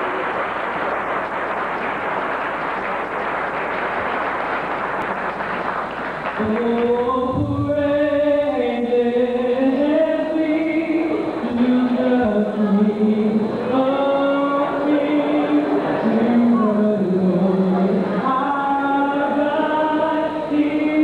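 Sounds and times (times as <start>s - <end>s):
crowd noise: 0.0s - 21.0s.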